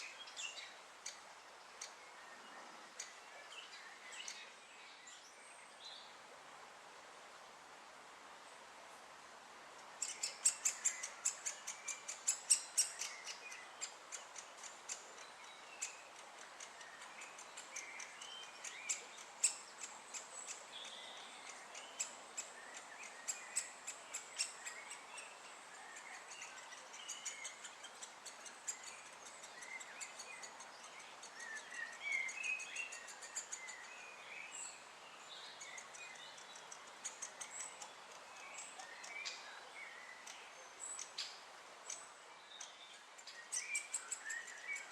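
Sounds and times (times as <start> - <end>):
soft bird chirps: 0.0 - 6.3, 9.8 - 44.9.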